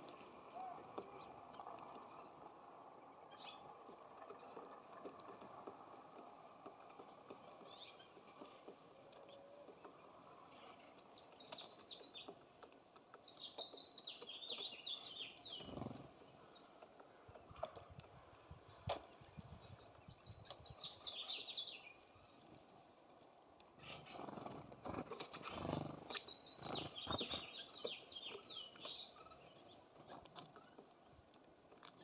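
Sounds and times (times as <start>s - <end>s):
small songbirds chirping: 0.1s - 32.0s.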